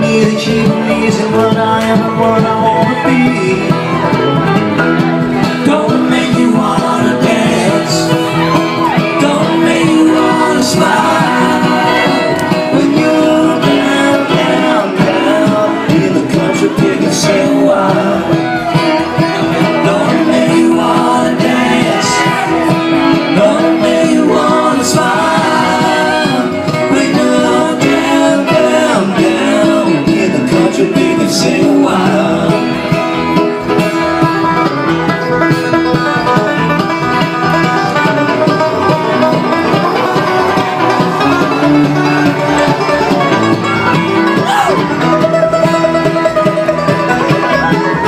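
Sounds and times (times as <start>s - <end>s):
bluegrass band playing: 0.0s - 48.0s.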